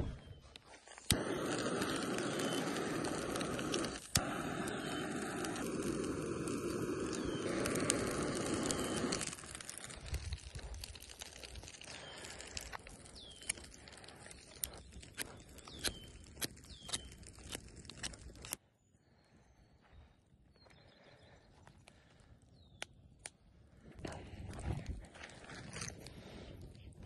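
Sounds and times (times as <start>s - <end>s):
campfire crackling: 0.0s - 18.6s, 21.2s - 27.0s.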